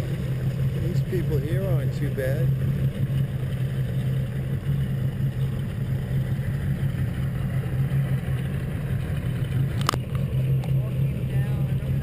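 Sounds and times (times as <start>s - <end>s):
motorboat engine droning: 0.0s - 12.0s
rushing water and air: 0.0s - 12.0s.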